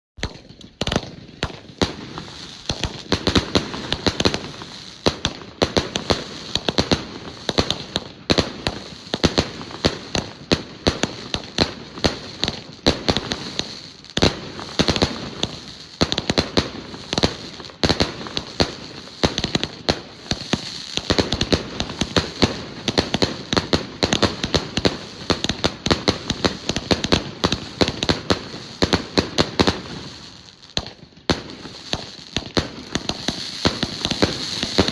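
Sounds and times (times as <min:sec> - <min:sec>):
fireworks bangs and crackles: 0:00.2 - 0:34.9.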